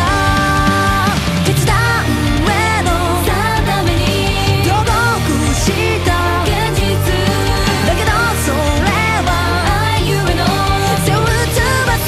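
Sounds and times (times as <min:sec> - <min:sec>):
energetic pop-rock music: 0:00.0 - 0:12.0.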